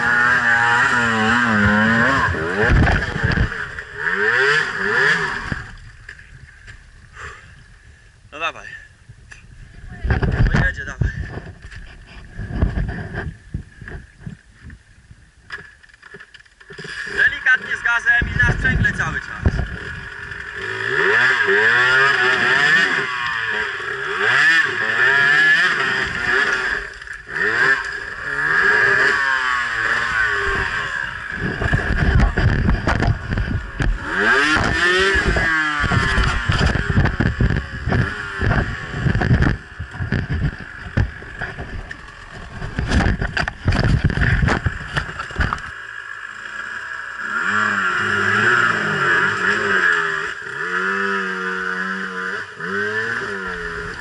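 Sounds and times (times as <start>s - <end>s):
dirt bike engine revving: 0.0s - 6.2s, 16.6s - 54.0s.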